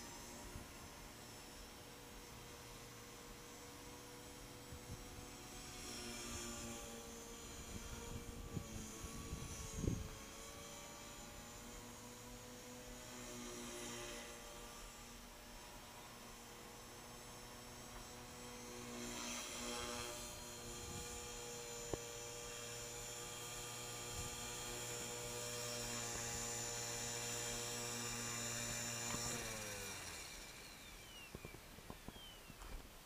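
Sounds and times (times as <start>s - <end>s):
rc helicopter rotor whine: 0.0s - 33.0s.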